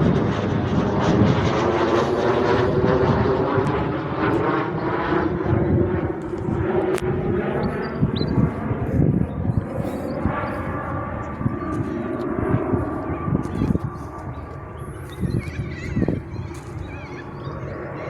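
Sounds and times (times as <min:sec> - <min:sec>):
aircraft engine drone: 0:00.0 - 0:18.0.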